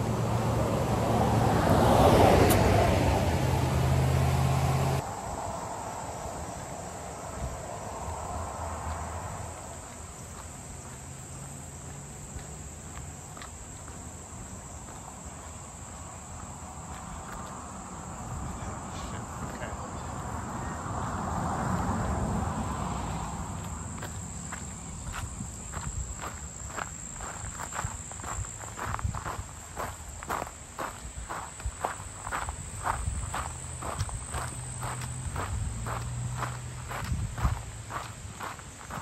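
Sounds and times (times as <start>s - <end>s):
vehicle engine humming: 0.0s - 28.7s, 31.5s - 39.0s
insects trilling: 3.9s - 39.0s.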